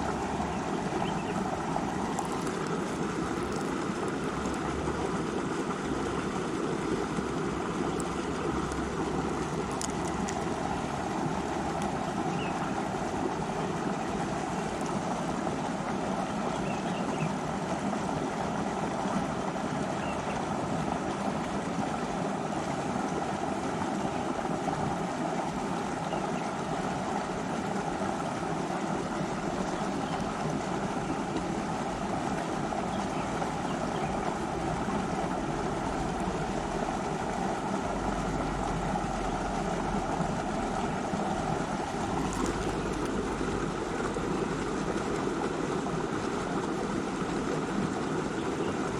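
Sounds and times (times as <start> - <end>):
river water rushing: 0.0 - 48.9.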